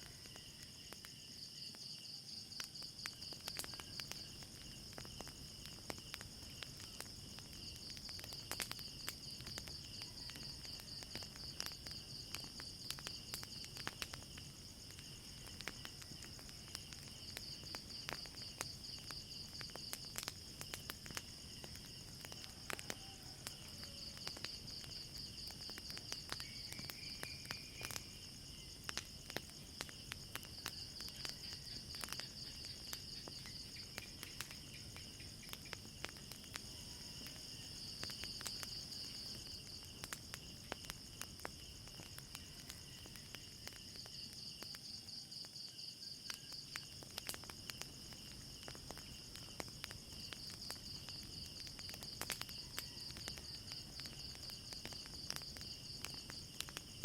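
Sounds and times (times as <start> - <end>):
crickets chirping: 0.0 - 57.0
wood fire crackling: 0.0 - 57.0.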